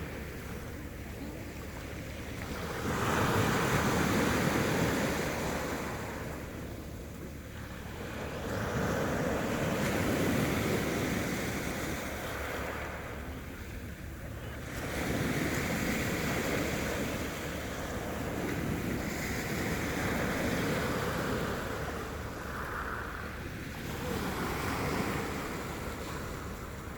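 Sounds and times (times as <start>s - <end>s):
sea waves breaking: 0.0s - 26.9s.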